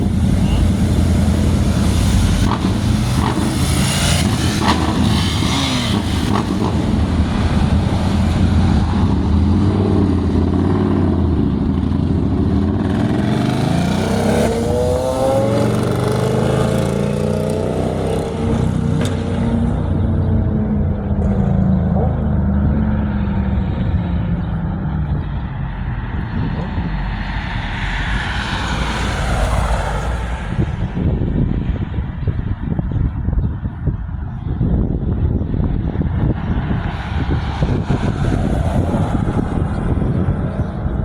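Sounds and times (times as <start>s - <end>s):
car and truck engines: 0.0s - 41.0s
vehicles accelerating away: 0.0s - 41.0s.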